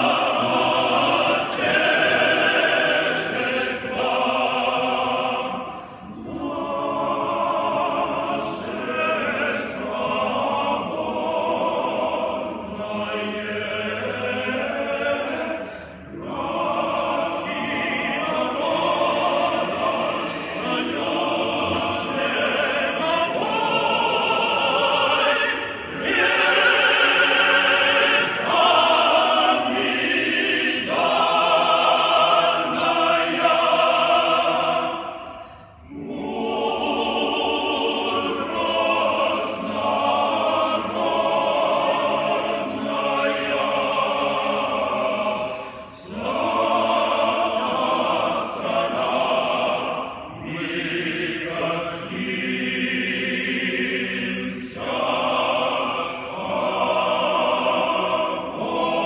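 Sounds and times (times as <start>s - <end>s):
male choir singing: 0.0s - 59.0s.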